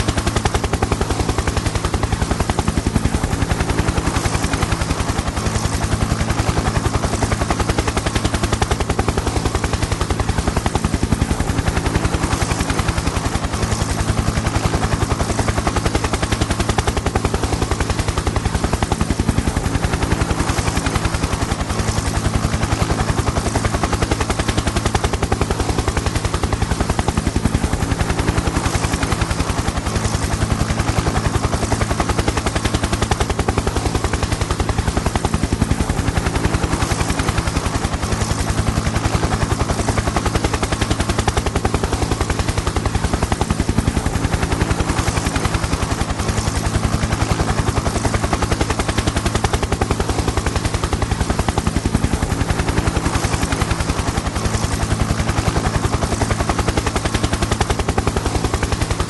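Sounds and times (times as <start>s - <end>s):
helicopter rotor blades chopping: 0.0s - 59.0s.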